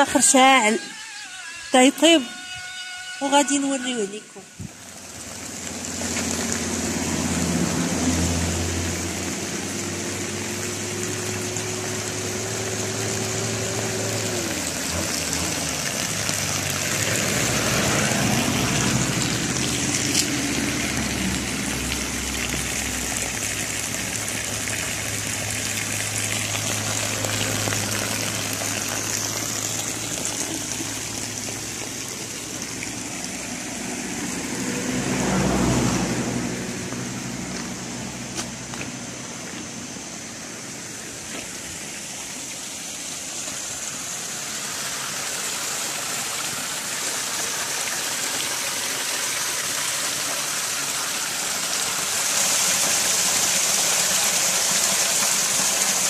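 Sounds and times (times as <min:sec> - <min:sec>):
stream splashing over rocks: 0:02.9 - 0:56.0.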